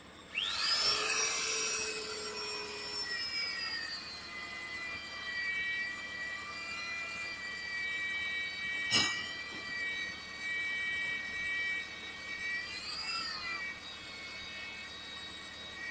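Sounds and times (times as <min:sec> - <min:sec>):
drill motor high-pitched whine: 0:00.0 - 0:15.9.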